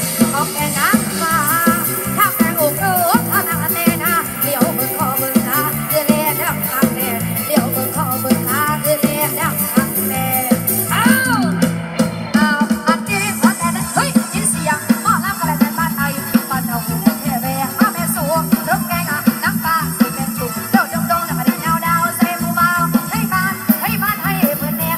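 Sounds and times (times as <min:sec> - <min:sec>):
song over loudspeakers: 0:00.0 - 0:24.9.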